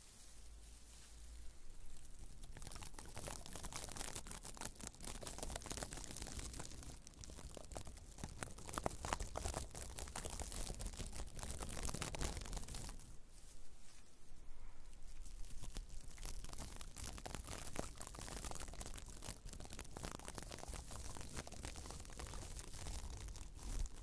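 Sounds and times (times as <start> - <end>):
tinsel rustling and crinkling: 0.0 - 24.0.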